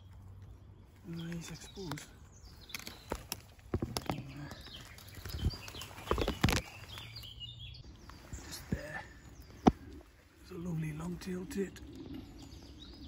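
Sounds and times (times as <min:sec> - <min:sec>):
twigs and brambles rustling: 0:00.0 - 0:13.0.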